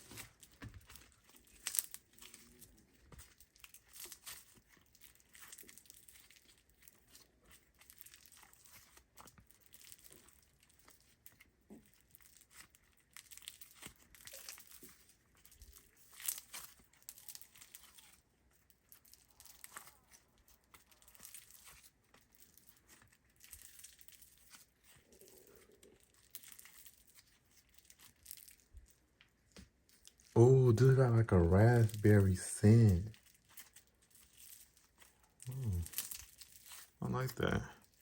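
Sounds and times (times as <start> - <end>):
foam slime crackling and popping: 0.0 - 38.0.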